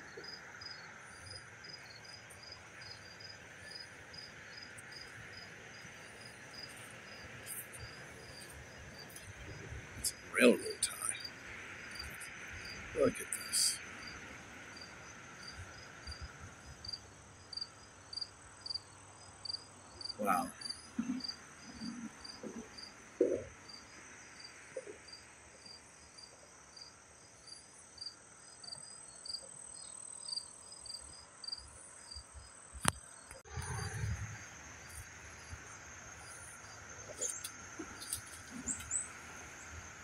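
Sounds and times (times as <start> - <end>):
crickets chirping: 0.0 - 40.0
high insect trill: 0.0 - 40.0.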